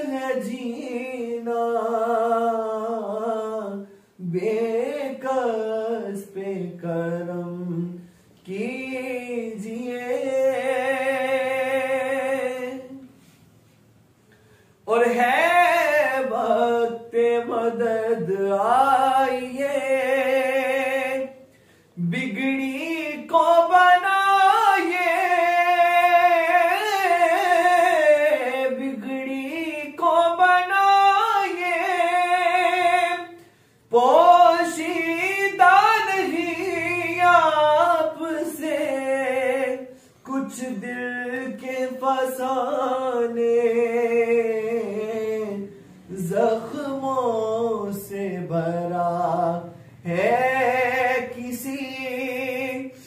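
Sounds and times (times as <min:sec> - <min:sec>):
man singing in a high voice: 0:00.0 - 0:13.4, 0:14.8 - 0:53.0.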